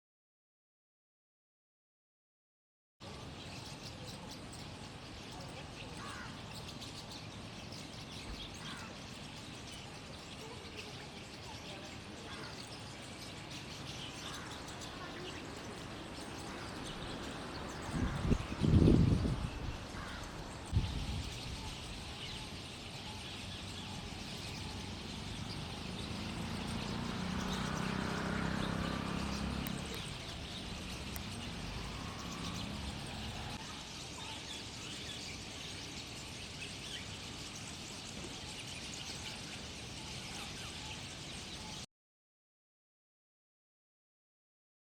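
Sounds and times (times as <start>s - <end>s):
starlings chattering: 3.1s - 41.8s.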